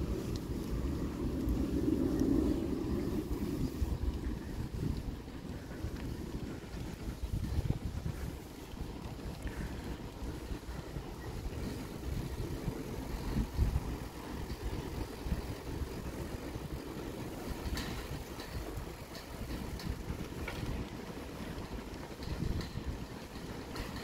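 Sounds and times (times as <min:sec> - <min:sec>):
bicycle tyre rumble: 0:00.0 - 0:24.0
faint ticks: 0:00.0 - 0:24.0
wind buffeting microphone: 0:00.0 - 0:24.0.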